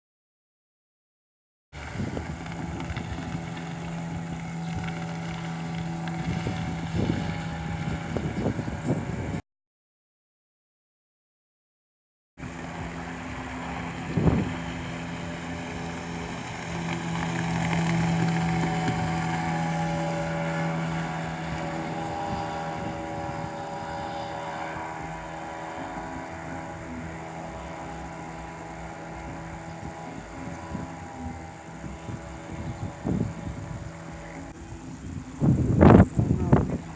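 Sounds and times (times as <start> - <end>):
outboard motor running: 1.8 - 9.4, 12.4 - 36.9.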